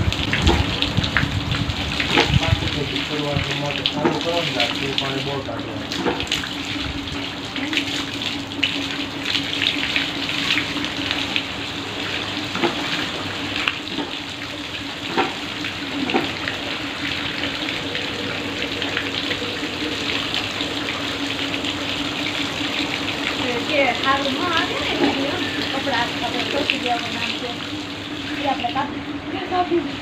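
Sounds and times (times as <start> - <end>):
water splashing: 0.0 - 29.1
water gushing from hose: 0.0 - 30.0.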